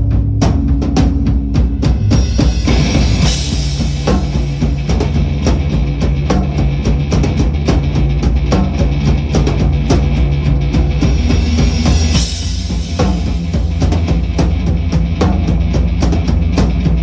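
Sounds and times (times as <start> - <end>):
bass line: 0.0 - 17.0
drum kit beating fast rhythm: 0.0 - 17.0
rock band playing: 0.0 - 17.0.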